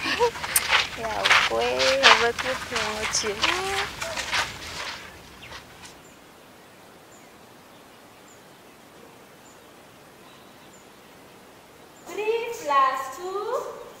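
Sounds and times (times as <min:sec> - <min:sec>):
quiet hiss: 0:00.0 - 0:14.0.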